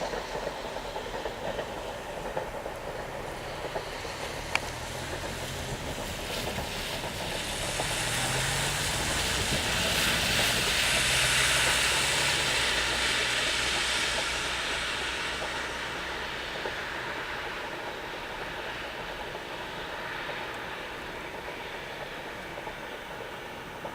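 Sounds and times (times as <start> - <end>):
electric train passing: 0.0 - 23.9.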